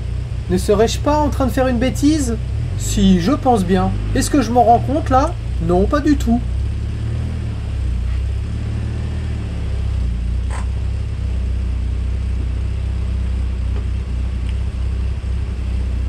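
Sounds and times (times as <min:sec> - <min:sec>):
car engine running at low revs: 0:00.0 - 0:16.0.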